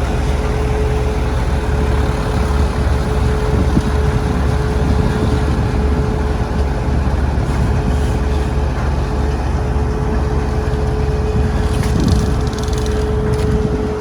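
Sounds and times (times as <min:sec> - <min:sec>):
low diesel engine rumble: 0:00.0 - 0:14.0.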